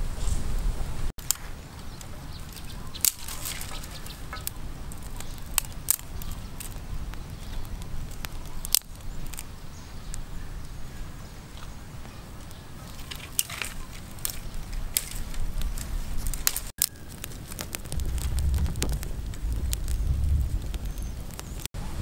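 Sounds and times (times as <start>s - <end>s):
wind rumble on microphone: 0.0s - 1.1s, 1.8s - 12.6s, 14.0s - 22.0s
fire crackling: 0.0s - 22.0s
dry twigs snapping: 1.2s - 10.8s, 11.5s - 21.7s.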